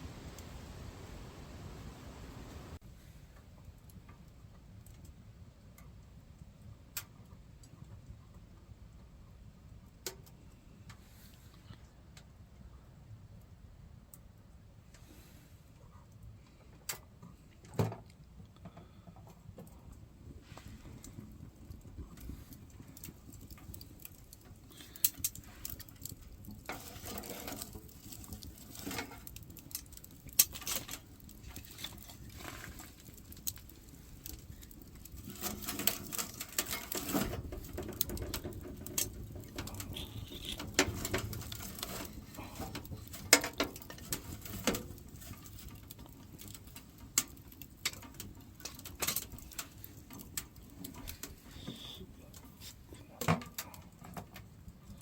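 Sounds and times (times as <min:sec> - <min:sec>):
firewood crackling and popping: 0:00.0 - 0:02.8, 0:03.5 - 0:11.1, 0:11.8 - 0:55.0.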